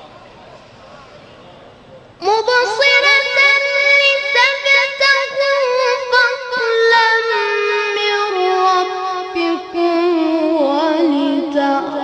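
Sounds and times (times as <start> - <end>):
boy reciting melodically: 2.2 - 12.0.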